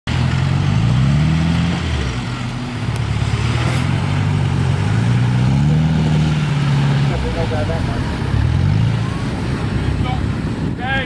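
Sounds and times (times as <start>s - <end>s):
engine revving under load: 0.1s - 10.8s.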